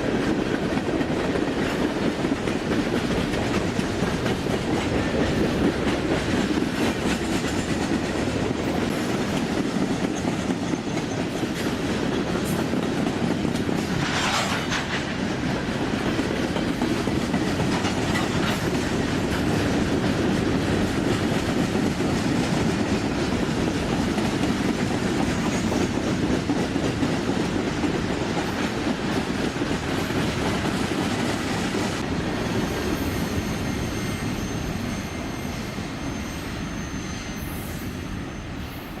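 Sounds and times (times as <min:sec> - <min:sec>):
wheels clacking over rail joints: 0:00.0 - 0:32.1
railroad cars rumbling past: 0:00.0 - 0:39.0.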